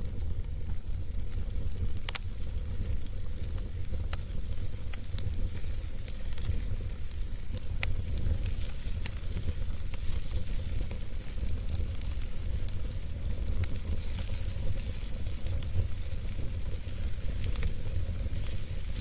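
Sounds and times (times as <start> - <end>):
burning wood crackling and popping: 0.0 - 19.0
fire flames rumbling and hissing: 0.0 - 19.0.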